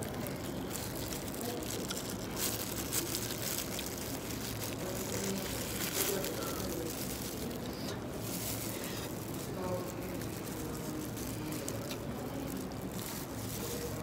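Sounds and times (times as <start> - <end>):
low room hum: 0.0 - 14.0
plastic glove crinkling: 0.0 - 14.0.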